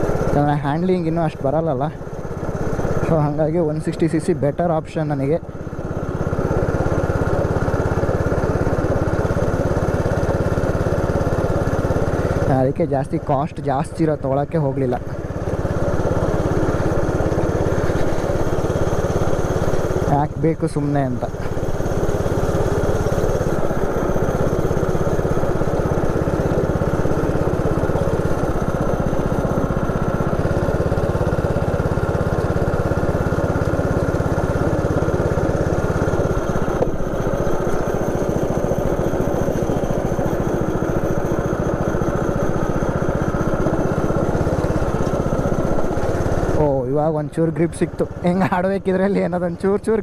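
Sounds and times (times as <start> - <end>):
go-kart engine running hard: 0.0 - 50.0.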